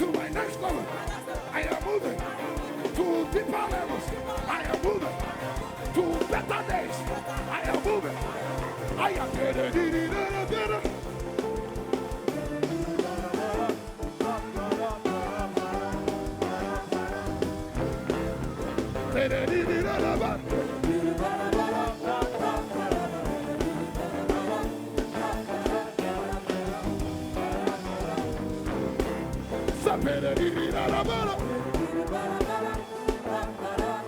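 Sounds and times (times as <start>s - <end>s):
live praise band music: 0.0s - 34.0s
singing voices: 0.0s - 34.0s
steady drum beat: 0.0s - 34.0s.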